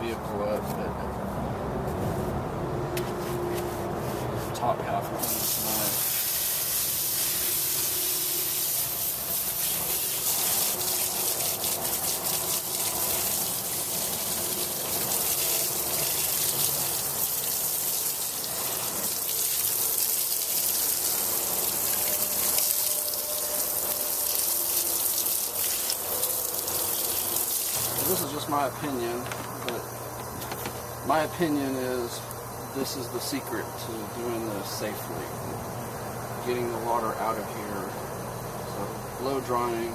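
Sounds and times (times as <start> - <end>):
water spraying over engine: 3.3 - 39.9.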